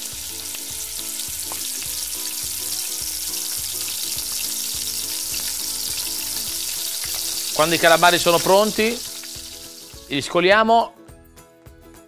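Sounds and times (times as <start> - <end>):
squid deep-frying in oil: 0.0 - 10.1.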